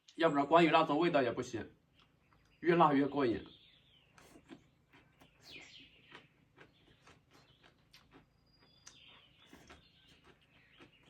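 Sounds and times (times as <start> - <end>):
faint bird chirps: 1.7 - 11.0.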